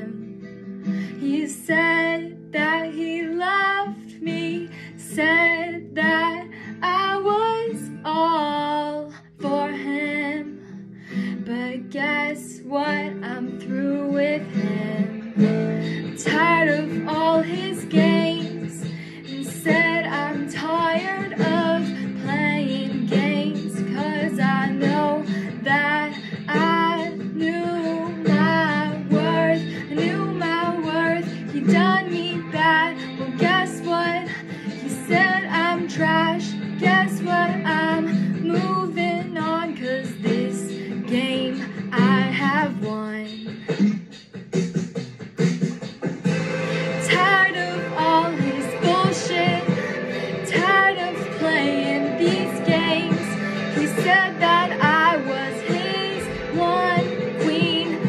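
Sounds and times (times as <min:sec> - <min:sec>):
guitar chords: 0:00.0 - 0:44.3, 0:45.2 - 0:58.0
woman singing pop song: 0:00.0 - 0:44.8, 0:45.8 - 0:58.0.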